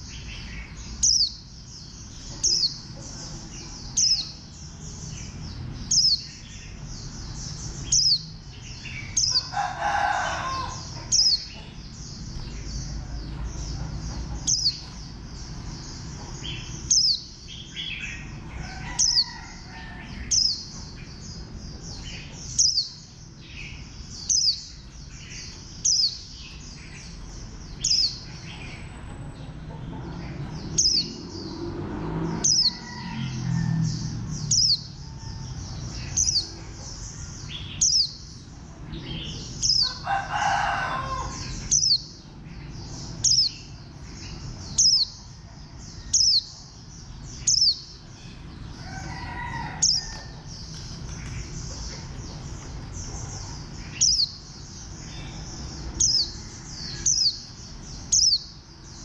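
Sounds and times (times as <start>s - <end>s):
high chatter of birdsong: 0.0s - 59.0s.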